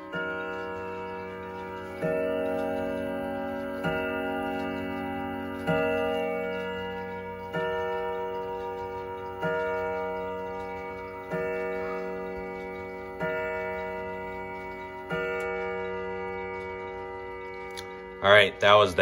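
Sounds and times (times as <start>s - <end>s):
clock gong striking: 0.0s - 19.0s
pendulum ticking: 0.0s - 19.0s.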